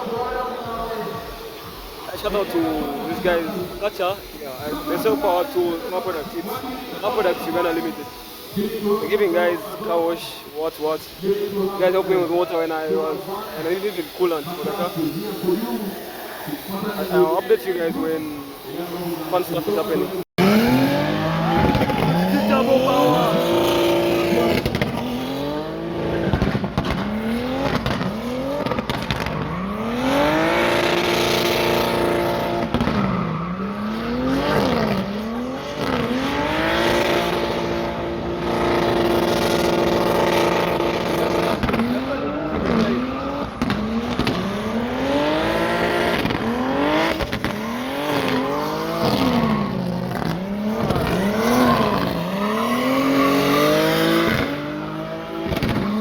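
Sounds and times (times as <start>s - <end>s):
car engines revving hard: 0.0s - 56.0s.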